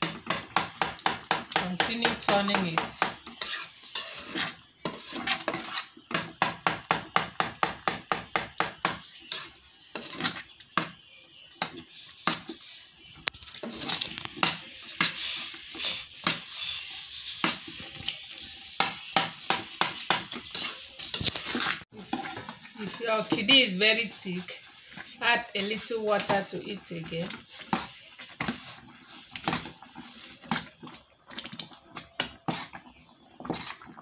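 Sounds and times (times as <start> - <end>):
metal spoon scraping a pot: 1.2 - 7.0, 8.6 - 31.0, 32.0 - 34.0.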